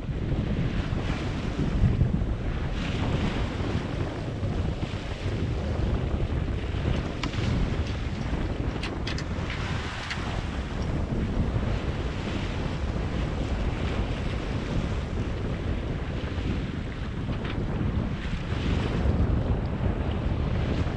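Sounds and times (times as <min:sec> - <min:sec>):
water rushing along hull: 0:00.0 - 0:20.9
wind buffeting microphone: 0:00.0 - 0:20.9.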